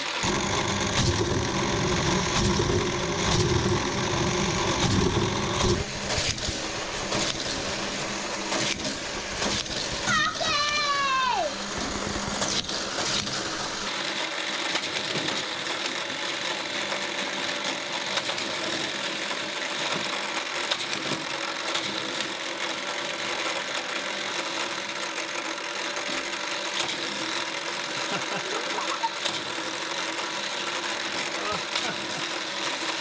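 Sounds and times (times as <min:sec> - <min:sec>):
toy cars rattling on plastic track: 0:00.0 - 0:33.0
toy racetrack booster whirring: 0:00.0 - 0:33.0.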